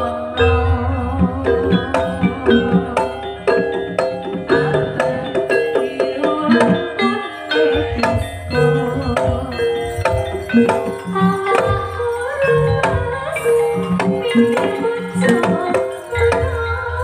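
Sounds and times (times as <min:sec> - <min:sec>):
metallophones ringing melody: 0:00.0 - 0:17.0.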